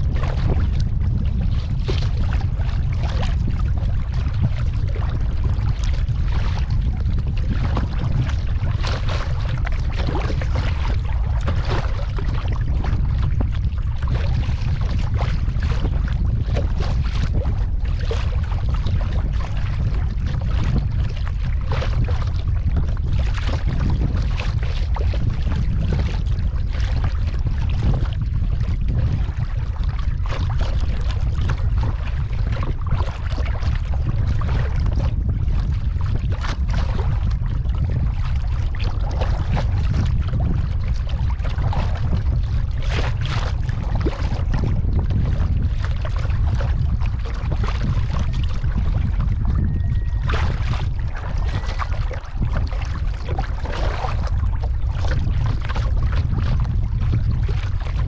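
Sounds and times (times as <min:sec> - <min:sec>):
kayak paddle strokes in water: 0:00.0 - 0:58.0
low rumble: 0:00.0 - 0:58.0.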